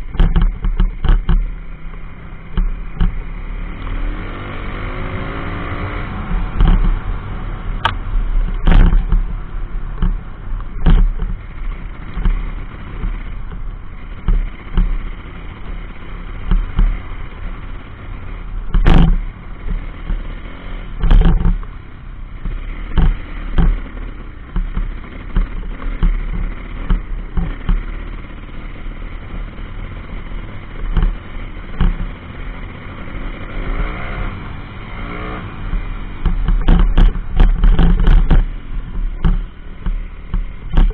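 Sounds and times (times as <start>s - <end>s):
pit bike engine revving: 0.0s - 40.9s
sharp thumps: 0.0s - 40.9s.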